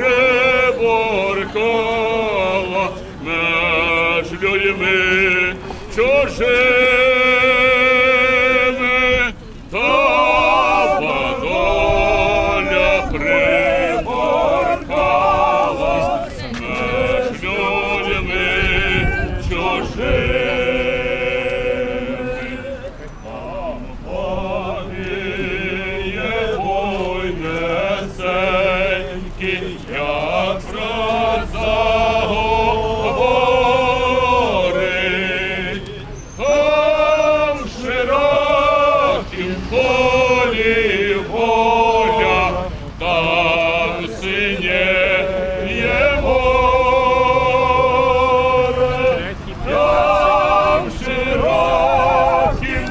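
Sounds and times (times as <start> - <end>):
group of voices singing: 0.0 - 52.9.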